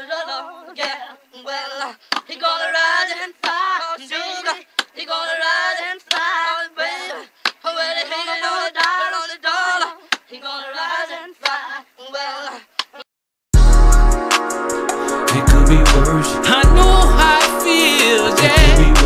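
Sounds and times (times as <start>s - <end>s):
gospel-style singing voices: 0.0s - 13.0s, 15.1s - 19.0s.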